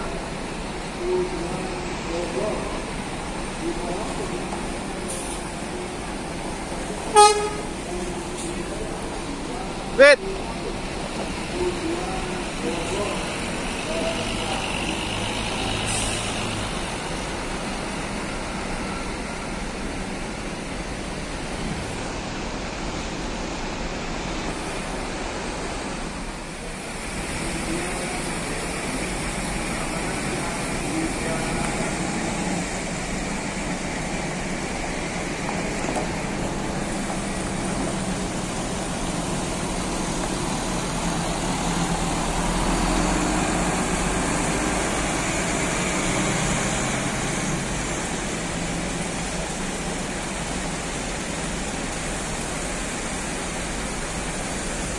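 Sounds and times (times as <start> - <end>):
coach driving slowly: 0.0 - 54.9
diesel coach engines running: 0.0 - 54.9.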